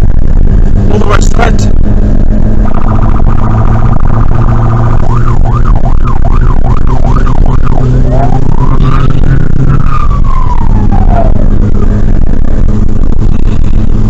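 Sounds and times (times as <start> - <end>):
emergency vehicle siren: 0.0 - 14.0
low engine drone: 0.0 - 14.0.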